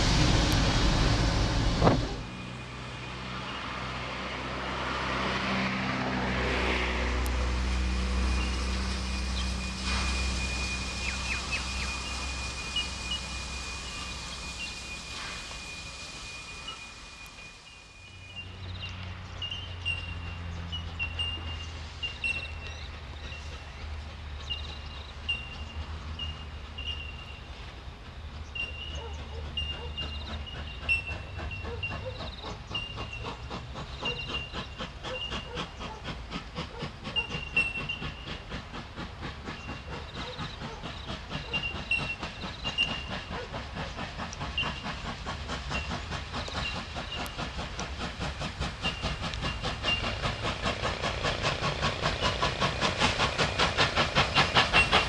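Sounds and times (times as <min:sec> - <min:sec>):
steam locomotive chuffing: 0:00.0 - 0:55.0.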